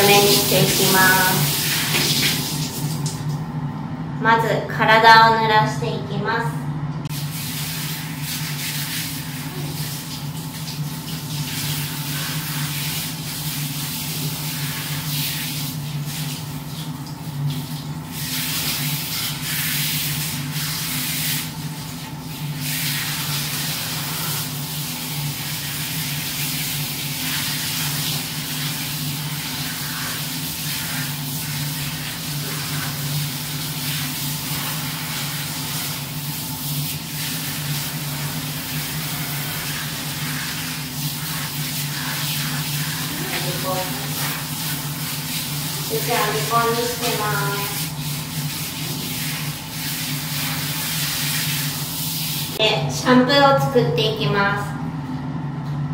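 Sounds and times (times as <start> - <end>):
shower head spraying water: 0.0 - 3.3, 7.1 - 16.6, 17.5 - 52.6.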